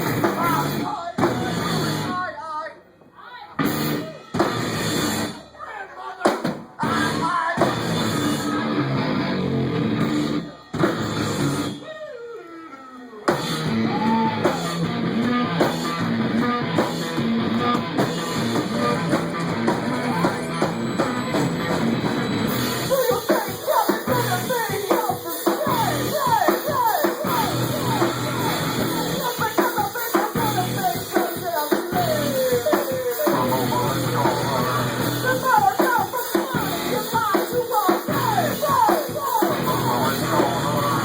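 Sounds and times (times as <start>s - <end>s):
live rock band playing: 0.0s - 2.2s, 3.6s - 5.5s, 6.4s - 11.8s, 13.3s - 41.0s.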